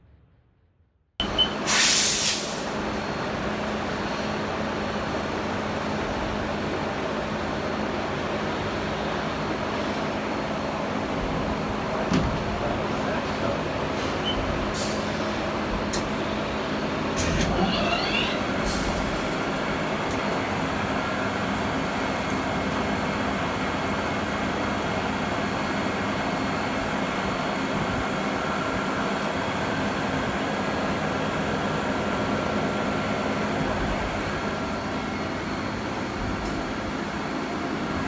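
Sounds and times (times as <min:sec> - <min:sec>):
machinery hum and whir: 0:02.6 - 0:38.0.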